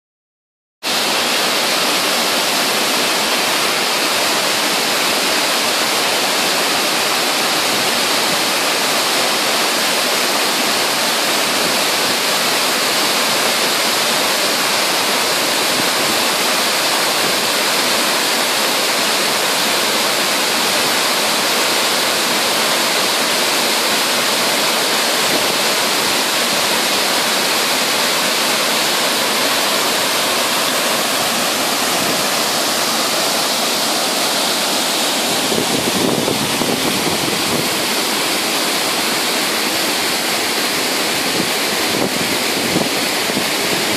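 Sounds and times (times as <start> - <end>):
waterfall rushing: 0.9 - 43.9.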